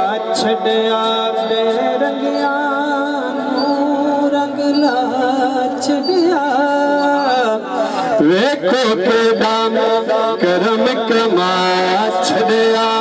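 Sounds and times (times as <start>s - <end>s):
man singing wordless melody: 0.0s - 13.0s.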